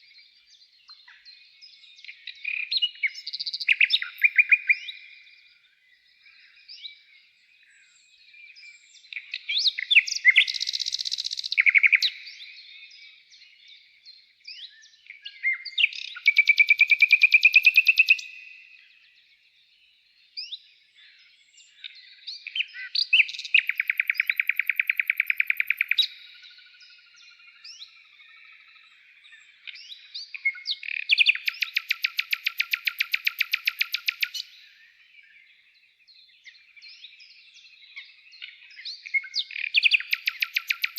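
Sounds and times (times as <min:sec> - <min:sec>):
songbird chirps and trills: 0:00.0 - 0:40.9.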